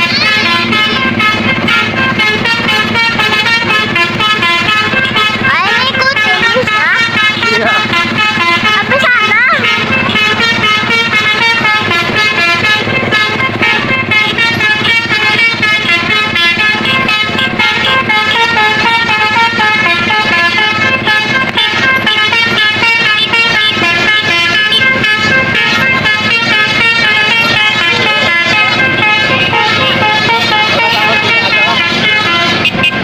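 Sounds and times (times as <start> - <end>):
bus horns playing a melody: 0.0 - 33.0.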